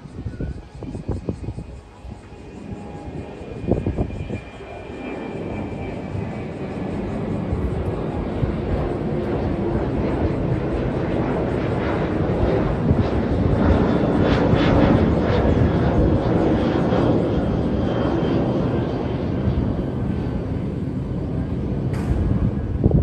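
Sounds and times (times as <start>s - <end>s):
jet airplane roaring overhead: 0.0s - 23.0s.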